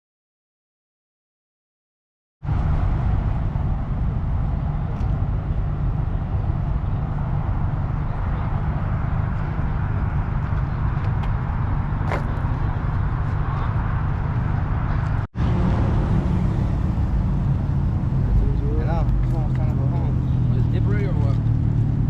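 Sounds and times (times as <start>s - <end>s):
car engine running: 2.5s - 22.0s.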